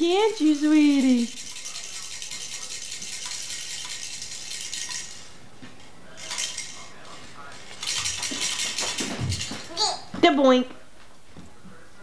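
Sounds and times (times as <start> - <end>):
small hard objects jingling: 0.3 - 10.0.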